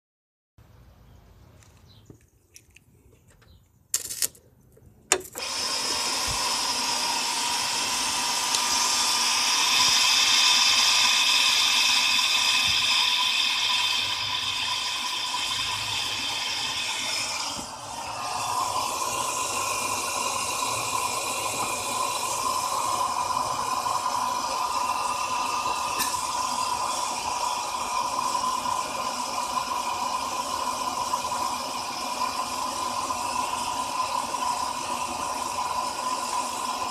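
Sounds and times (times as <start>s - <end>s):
electric motor whirring whine: 5.1s - 36.9s.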